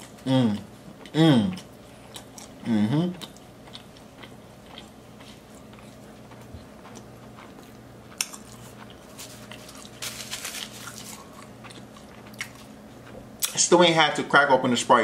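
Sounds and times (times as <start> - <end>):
person chewing: 0.0 - 13.6
faint steady hum: 0.0 - 15.0.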